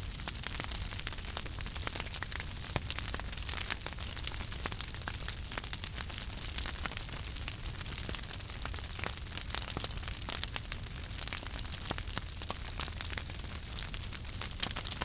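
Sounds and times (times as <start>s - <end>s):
wood fire crackling: 0.1s - 15.0s.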